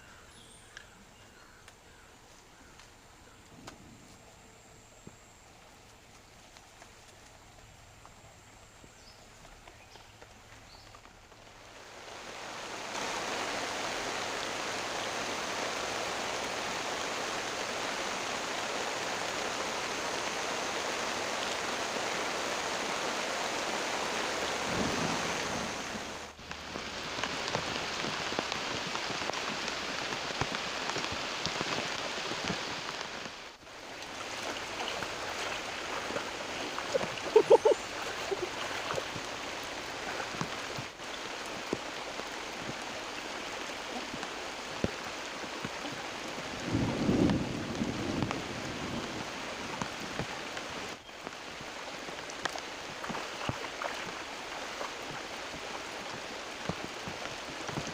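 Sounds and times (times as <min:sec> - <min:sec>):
rushing water: 0:00.0 - 0:57.9.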